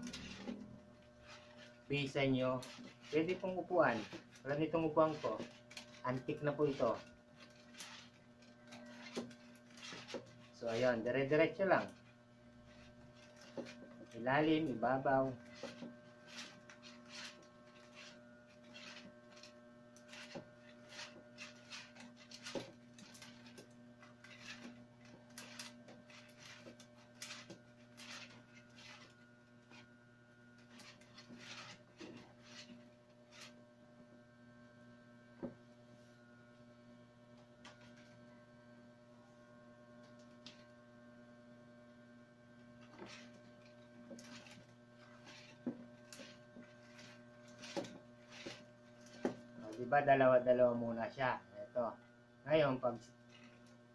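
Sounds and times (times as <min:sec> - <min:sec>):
wicker weaving clicks and scrapes: 0:00.0 - 0:33.7, 0:37.3 - 0:38.4, 0:39.9 - 0:41.2, 0:41.8 - 0:50.9, 0:52.5 - 0:53.9
electrical hum: 0:00.0 - 0:53.9.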